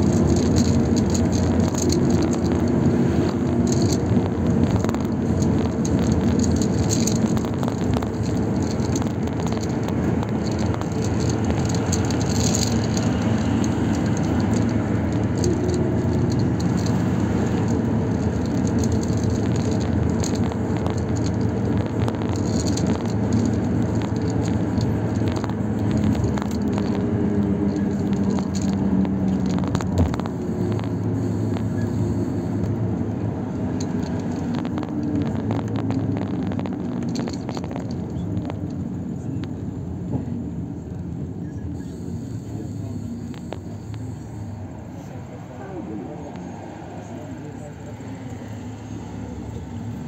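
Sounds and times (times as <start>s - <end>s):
light rattles: 0.0s - 50.0s
vehicle road and engine noise: 0.0s - 50.0s.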